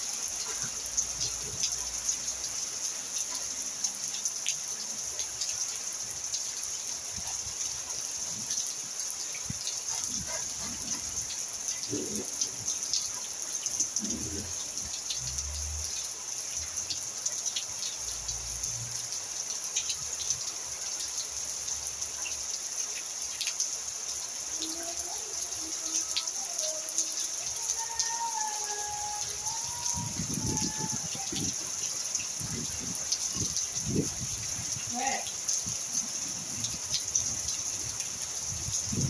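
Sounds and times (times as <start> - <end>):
rain on roof and pavement: 0.0 - 39.0.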